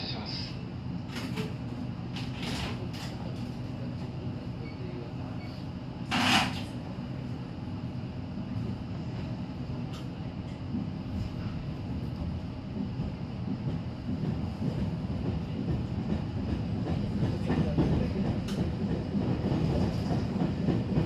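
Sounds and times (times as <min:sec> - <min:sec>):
train car hum: 0:00.0 - 0:21.0.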